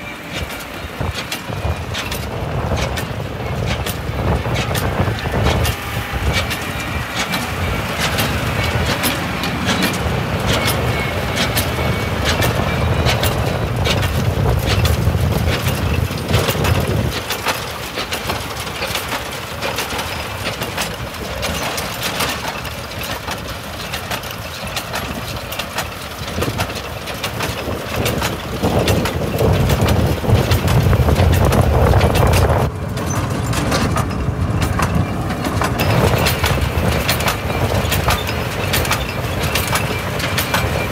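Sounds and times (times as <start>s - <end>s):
baler clattering and knocking: 0.0s - 40.9s
tractor engine rumble: 0.0s - 40.9s.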